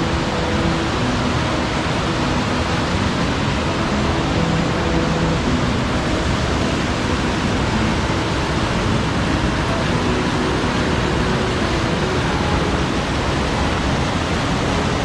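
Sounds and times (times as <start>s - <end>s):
fast water rushing: 0.0s - 15.0s.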